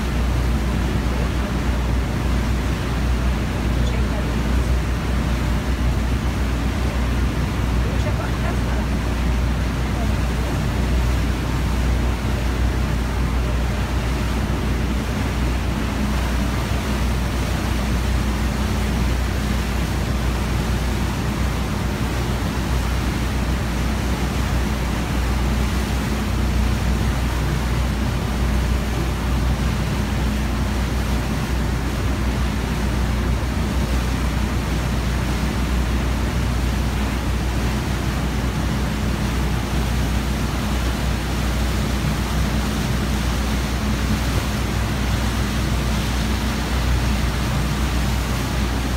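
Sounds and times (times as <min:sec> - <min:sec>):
motorboat engine droning: 0:00.0 - 0:48.9
wake water rushing: 0:00.0 - 0:48.9.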